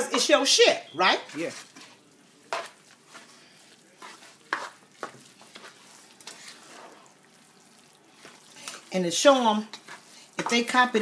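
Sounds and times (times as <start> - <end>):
spoon stirring thick food in pot: 1.2 - 11.0.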